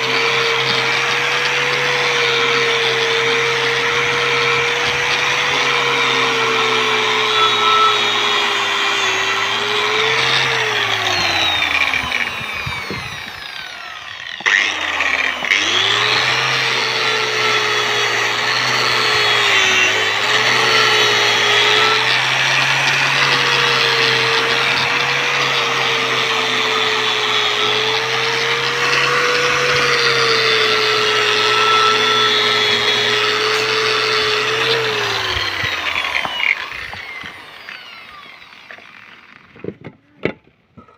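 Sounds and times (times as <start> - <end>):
angle grinder wire brush scraping metal: 0.0 - 39.7.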